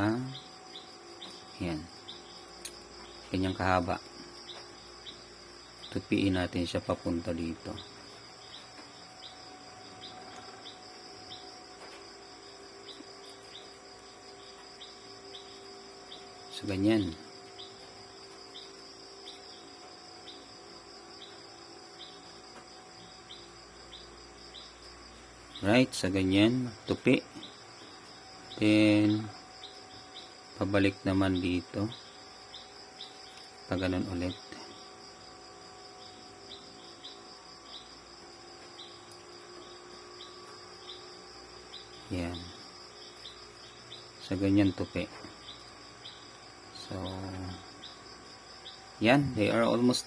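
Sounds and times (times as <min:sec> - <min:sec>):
faint low hum: 0:00.0 - 0:50.0
high-pitched insect trilling: 0:00.0 - 0:50.0
short insect chirp: 0:00.0 - 0:50.0.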